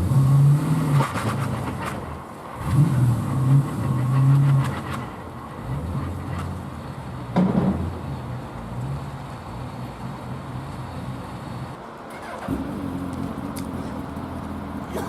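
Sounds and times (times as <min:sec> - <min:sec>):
low engine hum: 0:00.0 - 0:15.0
steady engine hum: 0:00.0 - 0:15.0.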